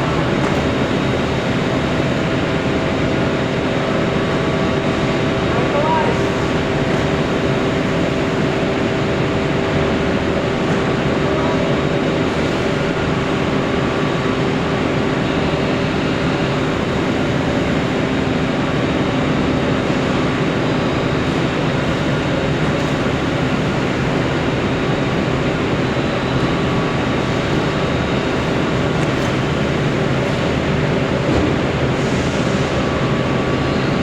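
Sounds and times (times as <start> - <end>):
factory machinery running: 0.0 - 34.0.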